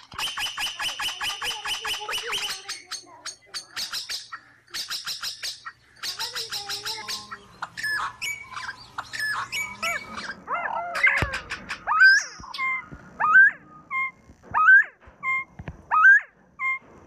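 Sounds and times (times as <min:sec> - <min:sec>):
birds whistled calls: 0:00.0 - 0:16.8
birds chattering trills: 0:00.0 - 0:16.9.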